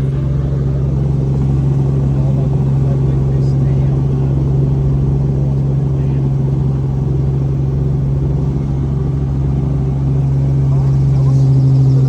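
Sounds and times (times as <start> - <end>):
helicopter engine and rotors: 0.0 - 12.0.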